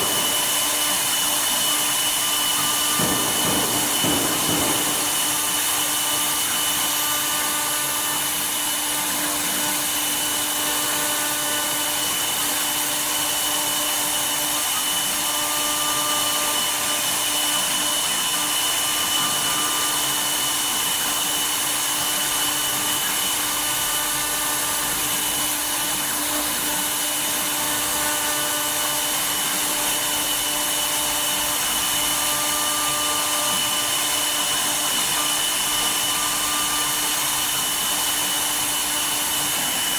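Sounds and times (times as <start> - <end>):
router spindle whine cutting wood: 0.0 - 39.9.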